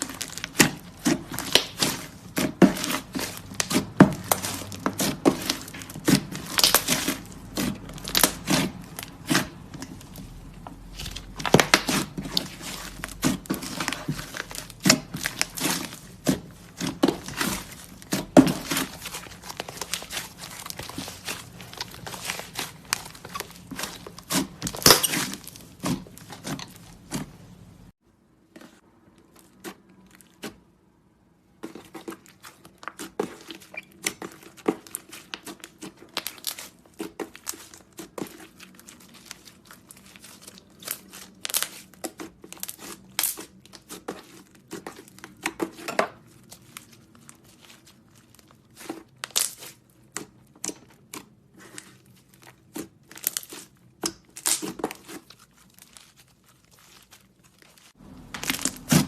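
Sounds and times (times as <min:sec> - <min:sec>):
hands squishing slime: 0:00.0 - 0:27.9, 0:31.4 - 0:59.0.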